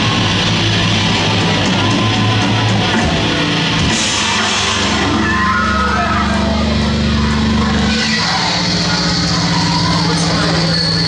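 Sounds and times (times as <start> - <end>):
heavy metal band playing: 0.0 - 11.0.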